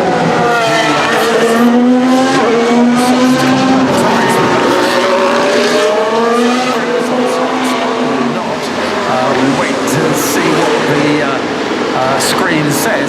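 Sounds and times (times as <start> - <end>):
race car engine accelerating: 0.0 - 12.8.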